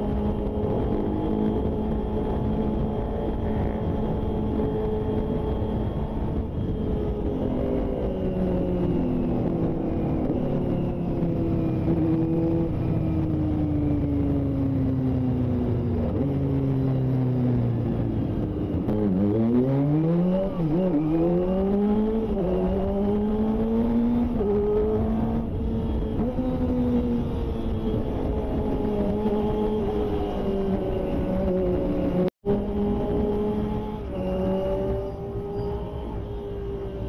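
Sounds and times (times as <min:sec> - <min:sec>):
motorcycle engine revving: 0:00.0 - 0:14.9, 0:15.7 - 0:37.0.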